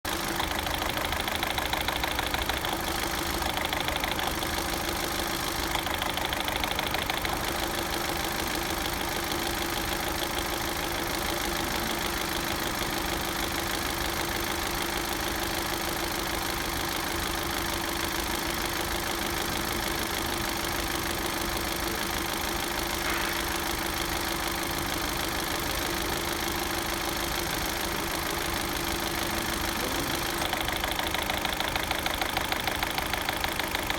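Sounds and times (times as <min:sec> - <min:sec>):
engine idling with rapid knocking: 0:00.0 - 0:33.9.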